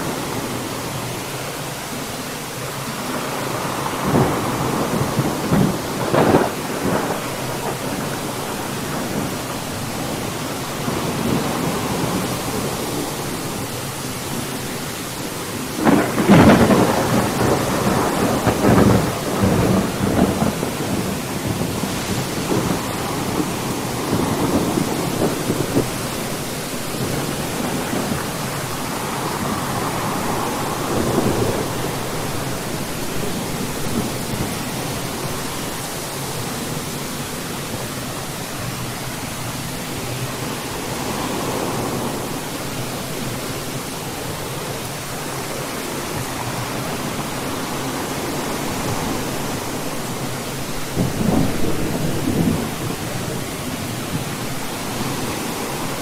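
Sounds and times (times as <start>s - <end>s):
steady rain: 0.0s - 56.0s
thunder rumbling: 3.2s - 38.6s, 44.2s - 56.0s.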